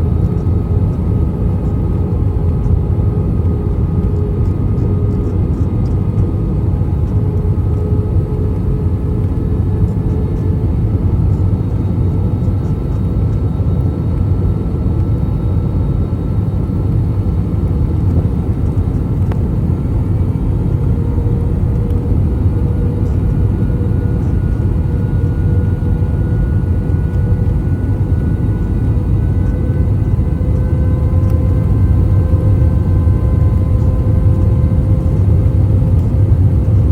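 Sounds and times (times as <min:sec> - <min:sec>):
airplane cabin rumble: 0:00.0 - 0:36.9
faint engine whine: 0:00.0 - 0:36.9.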